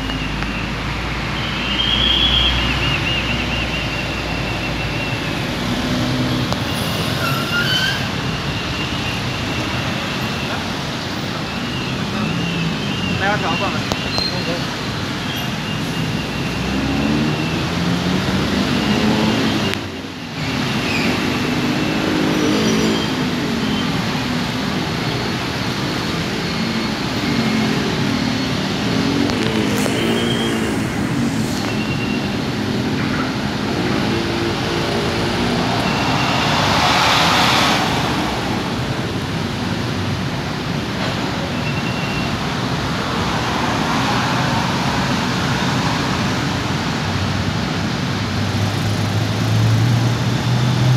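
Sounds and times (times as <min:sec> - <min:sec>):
vehicle engines idling and revving: 0:00.0 - 0:50.9.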